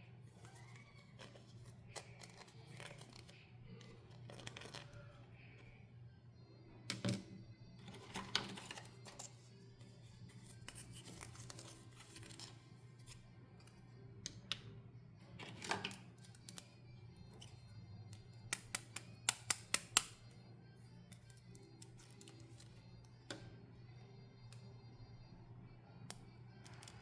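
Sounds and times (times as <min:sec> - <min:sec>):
soft background music: 0:00.0 - 0:27.0.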